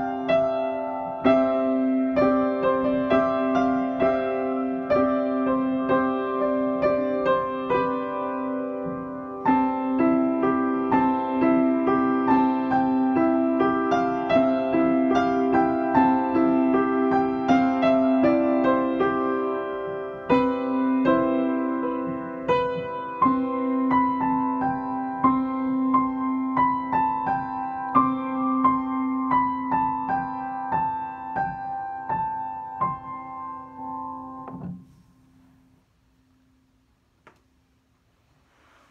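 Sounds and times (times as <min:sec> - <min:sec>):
piano music: 0:00.0 - 0:35.6.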